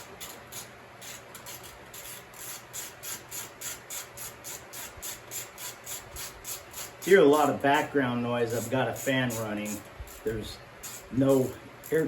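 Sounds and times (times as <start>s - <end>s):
ratchet wrench clicking: 0.0s - 7.2s, 8.5s - 12.0s
shop fan humming: 0.0s - 12.0s.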